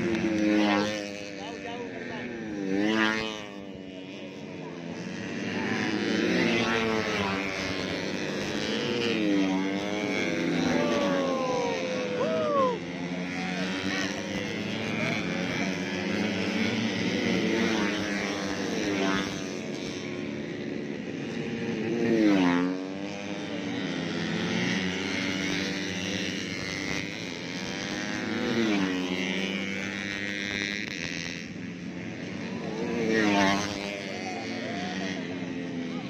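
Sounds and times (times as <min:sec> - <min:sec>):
racing motorcycles passing: 0:00.0 - 0:36.0.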